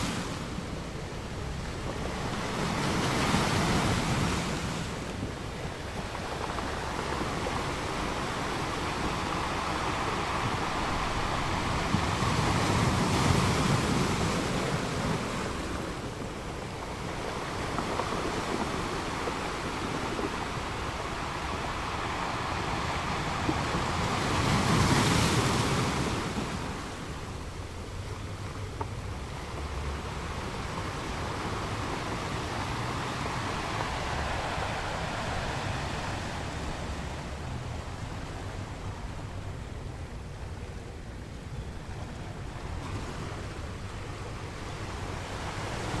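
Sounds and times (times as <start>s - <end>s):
ocean waves washing onto shore: 0.0s - 46.0s.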